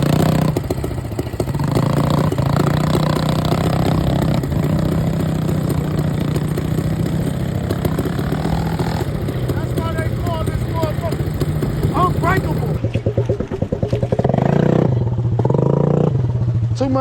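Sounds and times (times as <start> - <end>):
single-cylinder engine running: 0.0 - 17.0.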